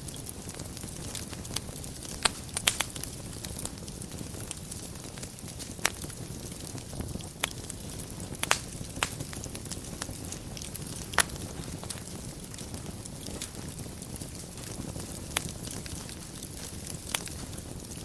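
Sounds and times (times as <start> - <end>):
fire crackles and pops: 0.0 - 18.0
low rumble of flames: 0.0 - 18.0.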